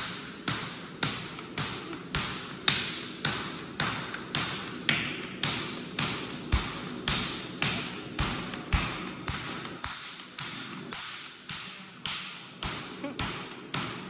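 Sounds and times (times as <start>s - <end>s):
hammer striking hot steel on anvil: 0.0s - 14.0s.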